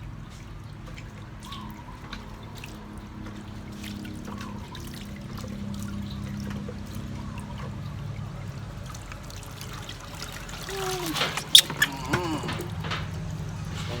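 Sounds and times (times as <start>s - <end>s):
small water drips: 0.0s - 14.0s
water trickling and splashing: 0.0s - 14.0s.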